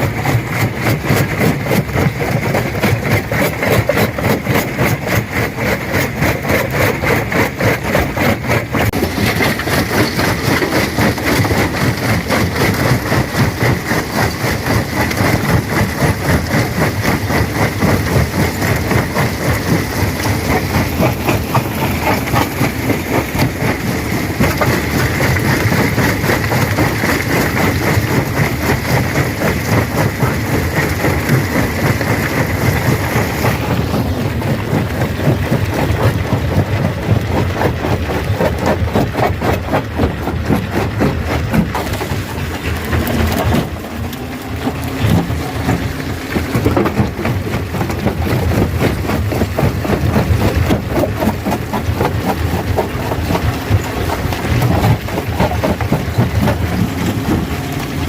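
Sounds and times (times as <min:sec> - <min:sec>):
machine low running rumble: 0:00.0 - 0:58.0
rock being crushed clattering: 0:08.0 - 0:58.0.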